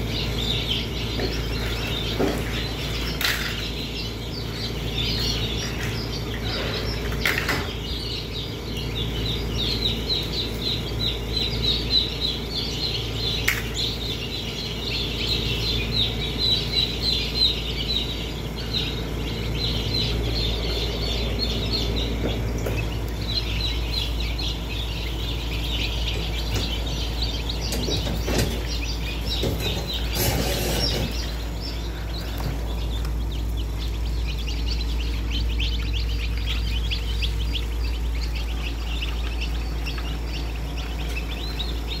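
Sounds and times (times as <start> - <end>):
chicks peeping: 0.0 - 42.0
steady low hum: 0.0 - 42.0.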